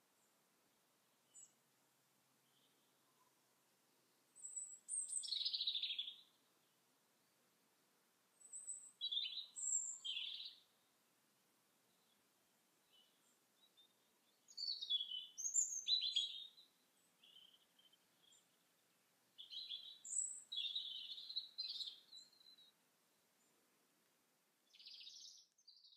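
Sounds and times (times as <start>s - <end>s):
songbird singing: 1.0s - 1.7s, 2.3s - 7.5s, 8.3s - 11.0s, 11.7s - 23.8s, 24.6s - 25.9s.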